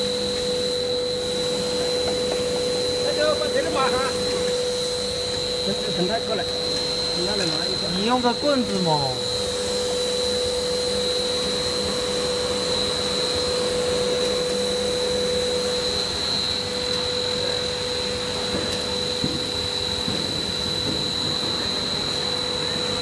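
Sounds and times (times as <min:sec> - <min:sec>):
film blowing machine running: 0:00.0 - 0:23.0
machine whining tones: 0:00.0 - 0:23.0.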